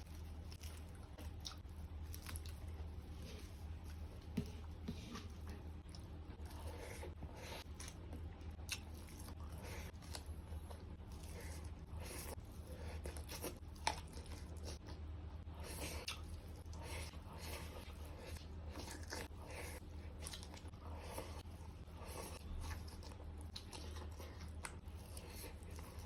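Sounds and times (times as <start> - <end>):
chewing with crunchy mouth sounds: 0.0 - 26.0
steady low hum: 0.0 - 26.0.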